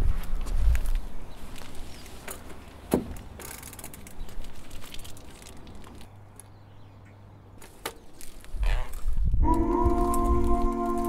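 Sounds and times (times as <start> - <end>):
bicycle clicks and rattles: 0.8 - 6.6, 7.6 - 11.0.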